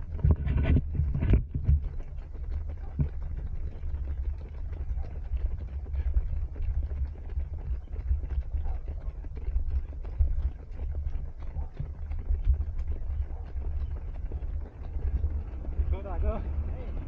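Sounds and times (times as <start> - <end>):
running footsteps: 0.0 - 17.0.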